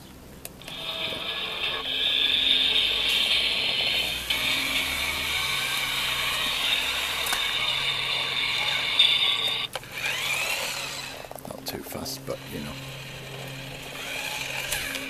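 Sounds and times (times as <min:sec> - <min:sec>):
model locomotive motor whirring: 0:00.5 - 0:15.0.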